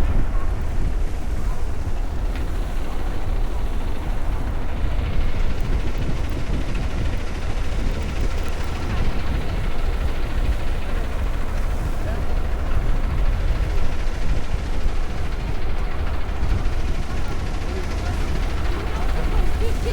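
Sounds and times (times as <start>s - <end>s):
traffic rumble: 0.0s - 19.9s.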